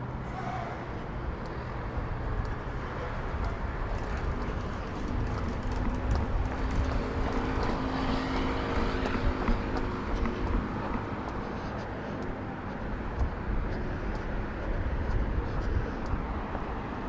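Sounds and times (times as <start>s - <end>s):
low traffic rumble: 0.0s - 17.0s
vehicle engine hum: 0.0s - 17.0s.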